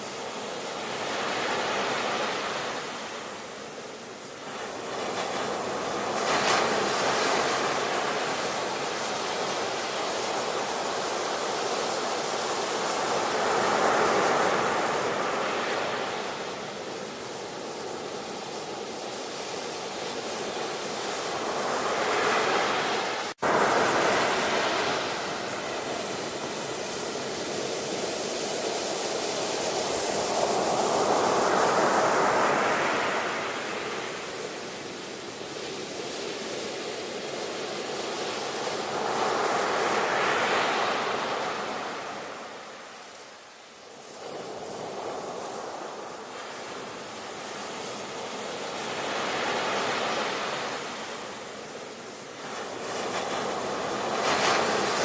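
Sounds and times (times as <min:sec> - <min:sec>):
ocean waves breaking ashore: 0:00.0 - 0:55.0.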